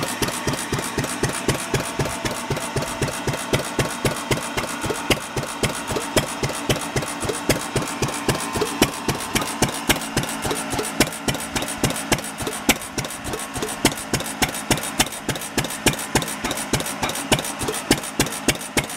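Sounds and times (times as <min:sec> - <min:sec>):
sharp clicks: 0:00.0 - 0:18.9
stationary engine exhaust pops: 0:00.0 - 0:18.9.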